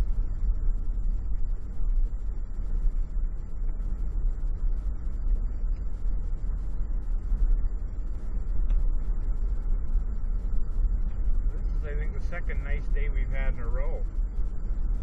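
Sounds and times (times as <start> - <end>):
car engine rumble: 0.0 - 15.0
microphone crackling ticks: 0.0 - 15.0
road noise inside car: 0.0 - 15.0.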